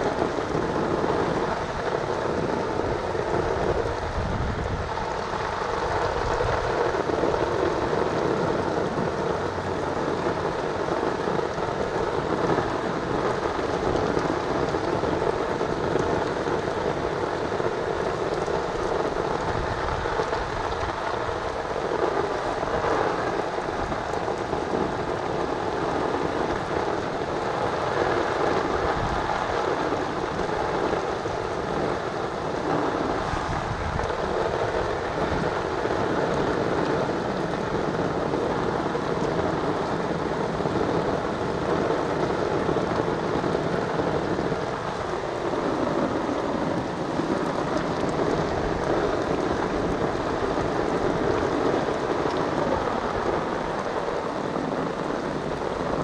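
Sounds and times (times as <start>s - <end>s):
rain on standing water: 0.0s - 56.0s.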